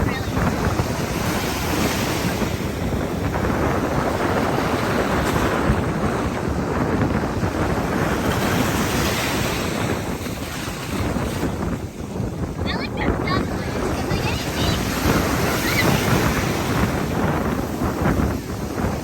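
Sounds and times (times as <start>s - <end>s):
ocean surf washing onto beach: 0.0s - 19.0s
wind buffeting microphone: 0.0s - 19.0s.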